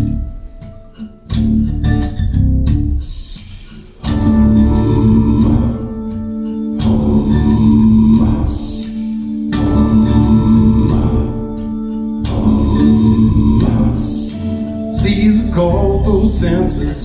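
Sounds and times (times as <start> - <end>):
guitar and deep bass music: 0.0 - 17.0.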